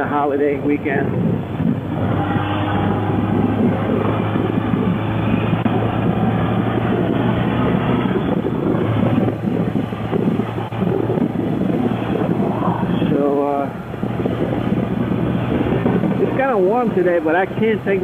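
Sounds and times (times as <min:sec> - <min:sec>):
rushing wind and road noise: 0:00.0 - 0:18.0
motorcycle engine running: 0:01.0 - 0:18.0.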